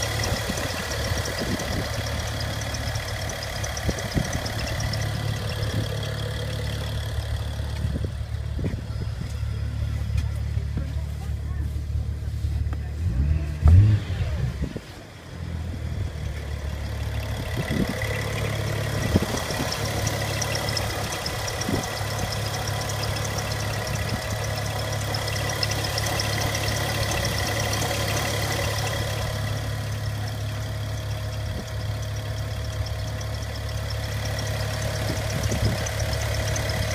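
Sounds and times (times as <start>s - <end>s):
car engine idling: 0.0s - 36.9s
engine ticking: 0.0s - 36.9s.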